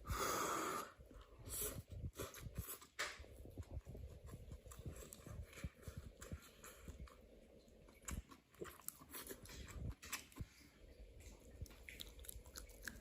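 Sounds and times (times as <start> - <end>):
chewing and lip-smacking: 2.1 - 13.0.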